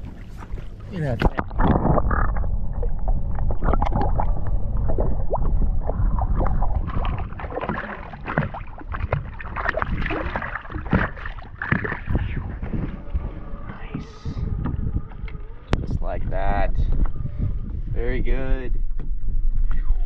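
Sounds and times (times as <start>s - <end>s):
water splashes: 0.0s - 17.3s
low rumble: 0.0s - 20.0s
water sloshing and gurgling: 0.0s - 20.0s.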